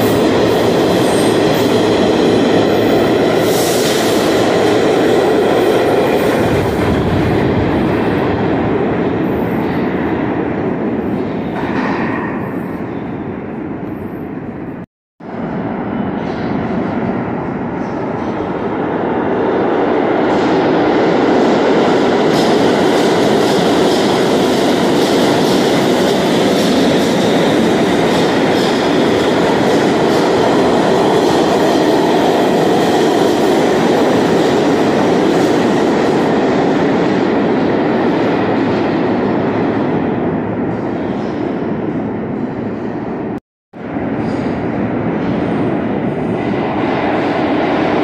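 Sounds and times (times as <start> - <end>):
subway train wheels rumbling: 0.0 - 48.0.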